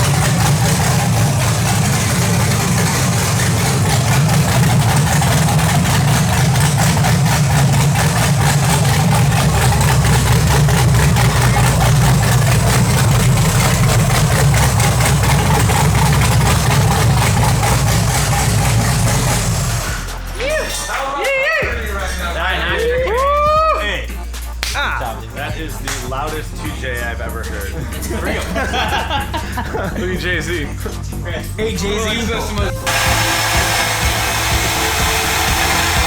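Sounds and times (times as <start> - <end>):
loud car engine idling: 0.0 - 36.0.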